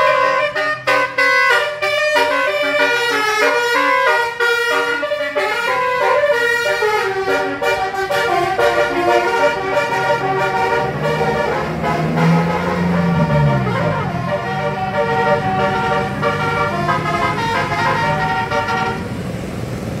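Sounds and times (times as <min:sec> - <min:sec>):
multi-tone musical bus horn: 0:00.0 - 0:19.2.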